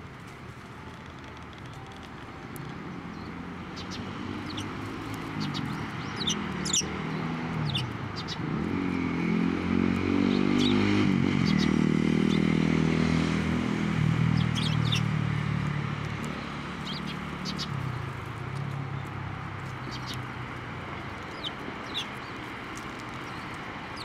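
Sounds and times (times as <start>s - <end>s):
sparrows chirping: 1.0s - 9.0s, 10.0s - 15.6s, 16.3s - 24.0s
vehicle engine passing by: 2.7s - 24.0s.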